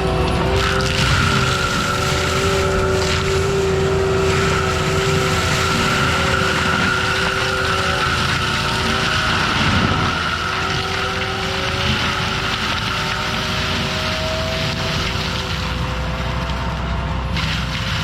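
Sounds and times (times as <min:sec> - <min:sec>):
engine rumble: 0:00.0 - 0:18.0
high-pitched whine: 0:00.0 - 0:18.0
mid-pitched whine: 0:00.0 - 0:18.0.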